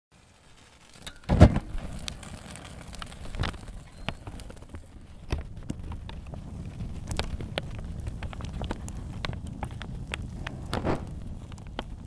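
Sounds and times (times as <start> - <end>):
crackles and clicks: 0.1 - 12.0
steady low rumble: 1.6 - 12.0.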